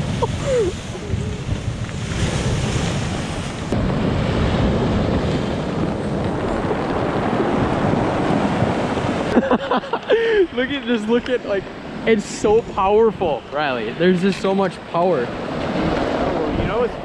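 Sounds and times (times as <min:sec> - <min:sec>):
surf breaking on rocky shore: 0:00.0 - 0:17.0
wind buffeting microphone: 0:00.0 - 0:17.0.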